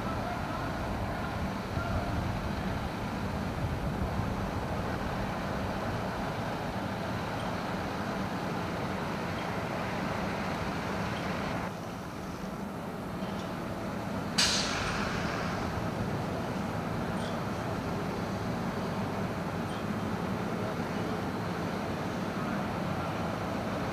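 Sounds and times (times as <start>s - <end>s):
rushing outdoor noise: 0.0s - 23.9s.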